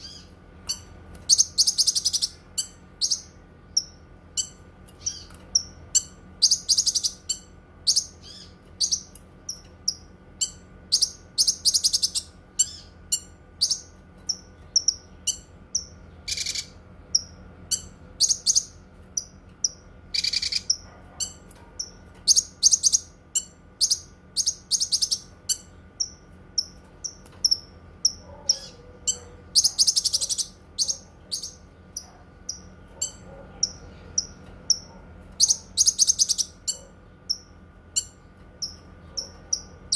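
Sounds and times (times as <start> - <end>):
bird chirping and trilling: 0.0 - 39.9
faint electrical hum: 0.0 - 39.9.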